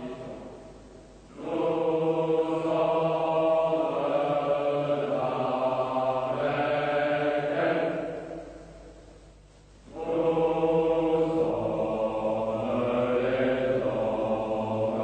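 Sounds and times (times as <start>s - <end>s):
men chanting together: 1.3s - 8.4s, 9.9s - 15.0s.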